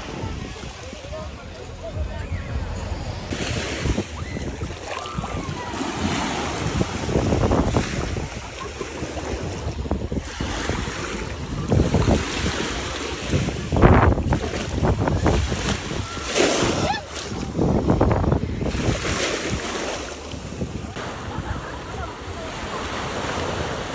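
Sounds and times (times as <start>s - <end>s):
wind rumbling on microphone: 0.0s - 23.9s
small waves washing on sand: 3.3s - 23.9s.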